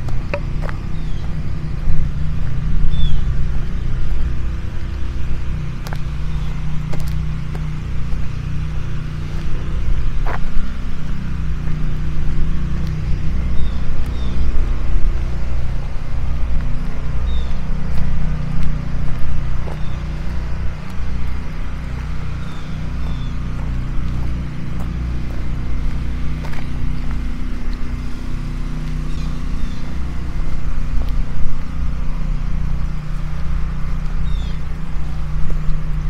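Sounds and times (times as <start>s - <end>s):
low engine hum: 0.0s - 36.0s.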